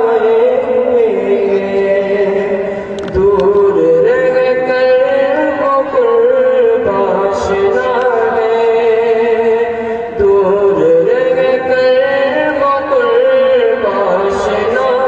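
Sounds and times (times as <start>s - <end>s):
man singing a chant: 0.0s - 15.0s.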